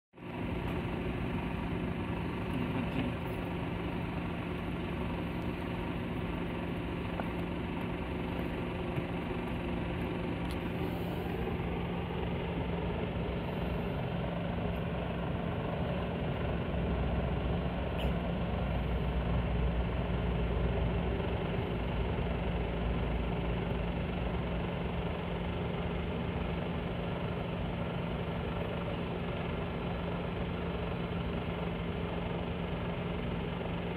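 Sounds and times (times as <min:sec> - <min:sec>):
deep engine rumble: 0:00.2 - 0:33.9
vehicle engines idling: 0:00.2 - 0:33.9.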